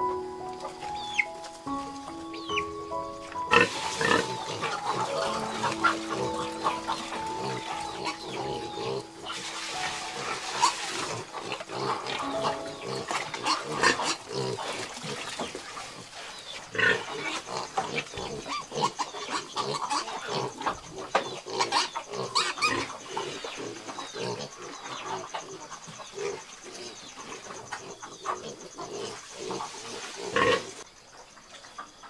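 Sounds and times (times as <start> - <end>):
piglets grunting and squealing: 3.4 - 30.8.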